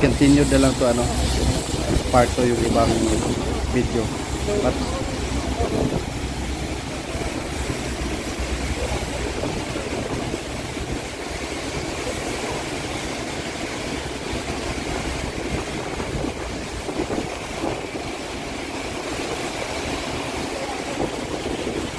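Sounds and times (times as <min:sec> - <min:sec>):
shipyard work noise: 0:00.0 - 0:21.9.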